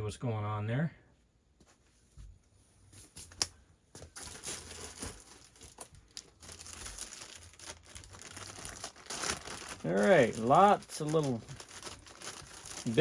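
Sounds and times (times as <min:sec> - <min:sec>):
rustling and crinkling: 0:01.6 - 0:13.0.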